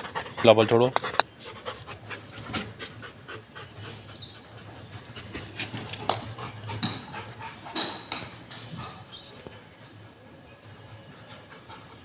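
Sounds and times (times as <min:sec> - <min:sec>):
dog panting: 0:00.0 - 0:09.6, 0:10.9 - 0:12.0.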